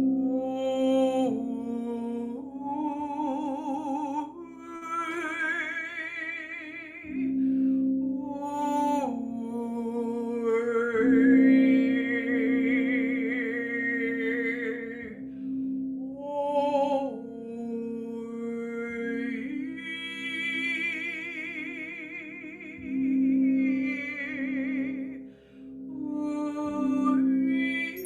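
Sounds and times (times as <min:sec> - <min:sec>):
woman singing wordlessly: 0:00.0 - 0:07.4, 0:08.1 - 0:15.2, 0:16.0 - 0:25.2, 0:25.9 - 0:28.0.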